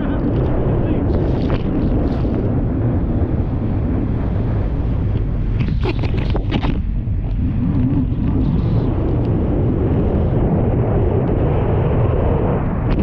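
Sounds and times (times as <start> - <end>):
hull slapping waves: 0.0 - 13.0
wind rushing on microphone: 0.0 - 13.0.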